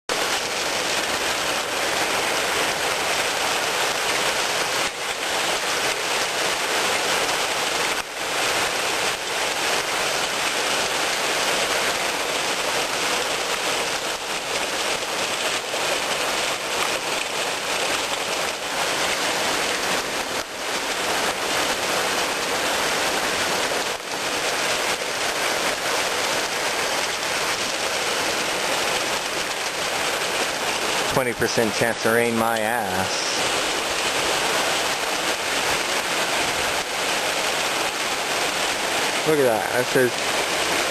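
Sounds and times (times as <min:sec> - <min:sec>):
heavy rain pouring: 0:00.1 - 0:40.9.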